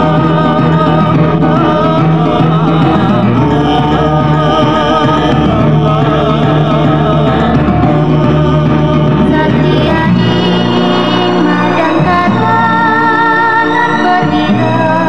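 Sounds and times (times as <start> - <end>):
singer's wavering ornamented voice: 0.0 - 15.0
steady bass line: 0.0 - 15.0.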